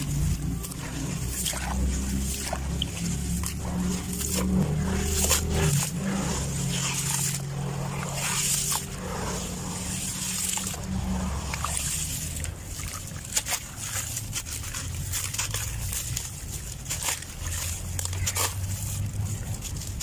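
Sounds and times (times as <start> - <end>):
dirt crumbling and rustling: 0.0 - 20.0
sharp crackles: 0.0 - 20.0.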